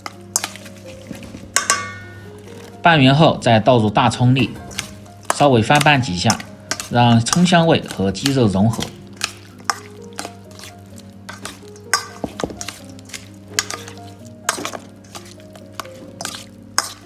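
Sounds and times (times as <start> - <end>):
spoon scraping metal bowl: 0.0 - 2.2, 4.6 - 17.0
soft background music: 0.0 - 17.0.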